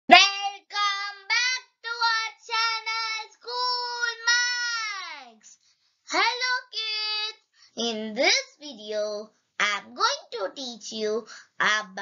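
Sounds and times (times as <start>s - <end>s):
child singing unaccompanied: 0.1s - 12.0s.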